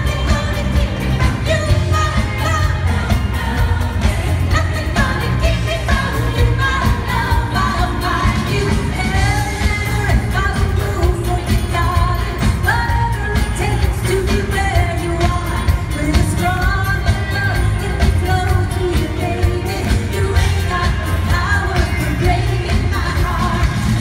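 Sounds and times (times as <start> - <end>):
band with bass and drums: 0.0 - 24.0
woman singing into a microphone: 0.0 - 24.0.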